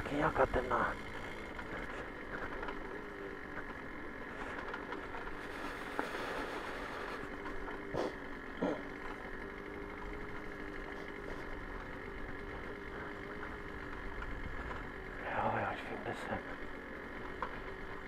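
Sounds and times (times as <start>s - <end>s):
moped engine running: 0.0s - 18.0s.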